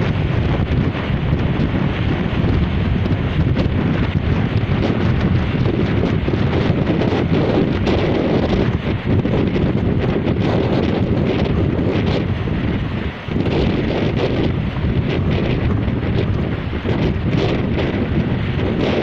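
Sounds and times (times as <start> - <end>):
strong wind buffeting microphone: 0.0 - 19.0
waves washing on shore: 0.0 - 19.0.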